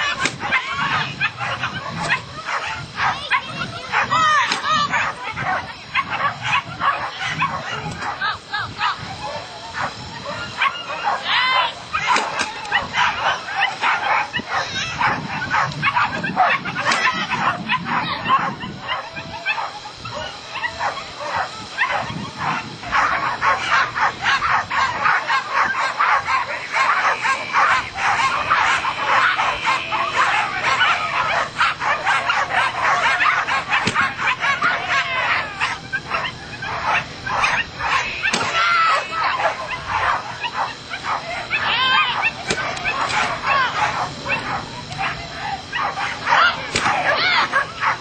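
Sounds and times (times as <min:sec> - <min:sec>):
dogs barking: 0:00.0 - 0:48.0.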